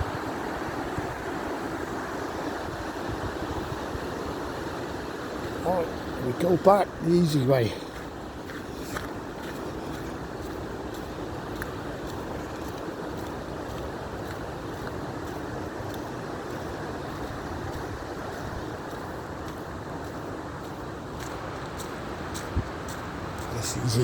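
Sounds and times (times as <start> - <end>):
river water over rocks: 0.0 - 24.0.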